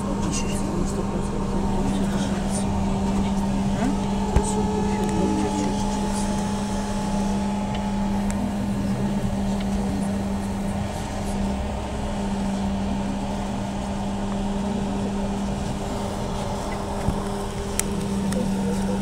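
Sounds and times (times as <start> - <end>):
electric hum of trolleybus: 0.0 - 19.0
road and tyre rumble: 0.0 - 19.0.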